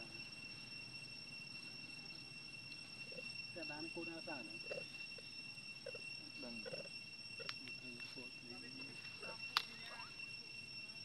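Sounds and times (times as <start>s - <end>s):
high-pitched insect drone: 0.0s - 11.0s
low background hiss: 0.0s - 11.0s.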